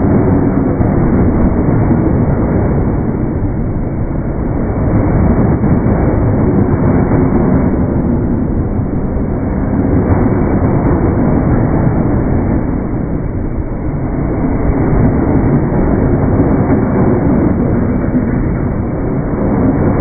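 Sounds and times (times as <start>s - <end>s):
deep train rumble: 0.0s - 20.0s.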